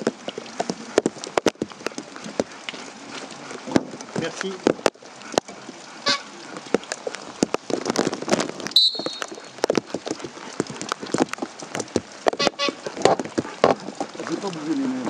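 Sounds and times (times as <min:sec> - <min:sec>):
raindrops pattering: 0:00.0 - 0:15.0.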